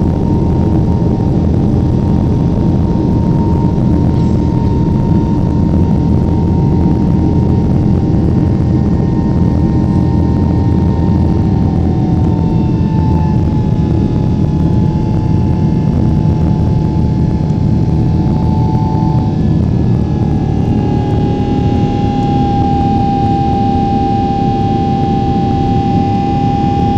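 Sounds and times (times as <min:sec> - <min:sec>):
airplane cabin air rumble: 0:00.0 - 0:26.9
jet engine whine: 0:00.0 - 0:26.9.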